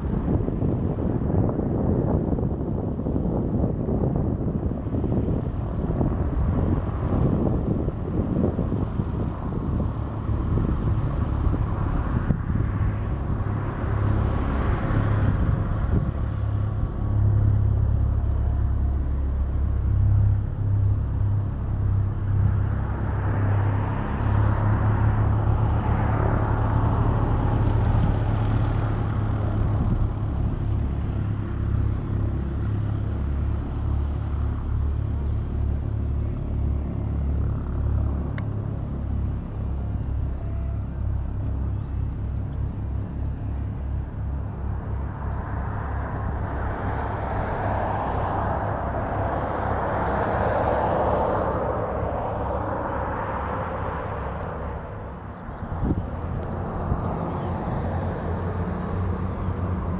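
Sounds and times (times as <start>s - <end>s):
light aircraft engines droning: 0.0s - 59.9s.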